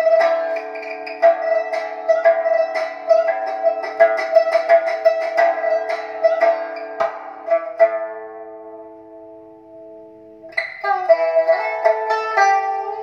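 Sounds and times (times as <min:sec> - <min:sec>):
plucked string instrument music: 0:00.0 - 0:13.0.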